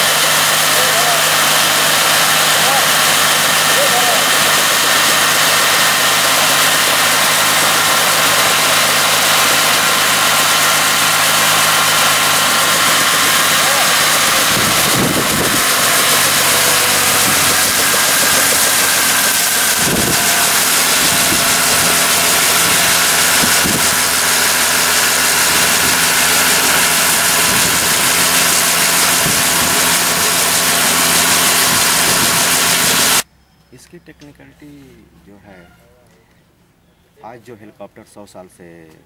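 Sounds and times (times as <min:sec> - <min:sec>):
helicopter engine and rotor: 0:00.0 - 0:33.2.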